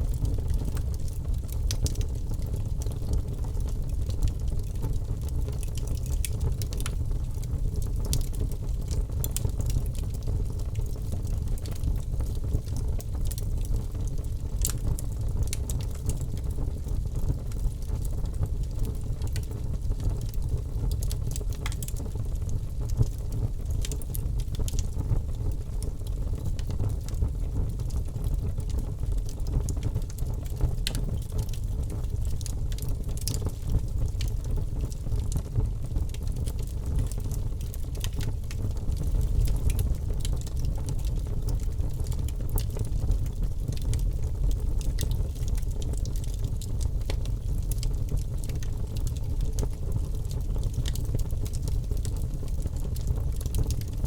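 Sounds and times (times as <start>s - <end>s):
campfire crackling and popping: 0.1s - 54.0s.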